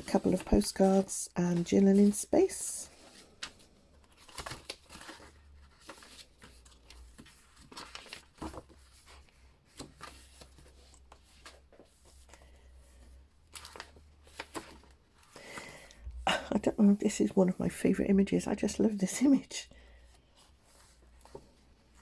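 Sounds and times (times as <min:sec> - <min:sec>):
paper pages rustling: 0:00.0 - 0:16.0, 0:19.9 - 0:22.0.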